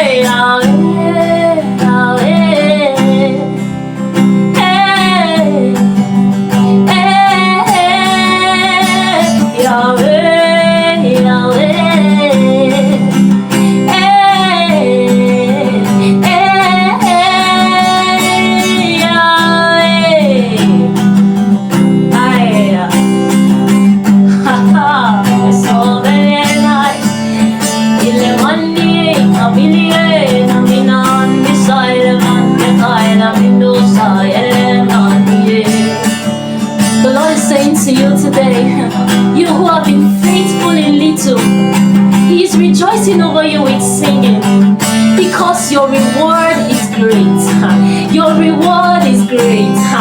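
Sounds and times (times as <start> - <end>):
acoustic guitar strumming: 0.0 - 50.0.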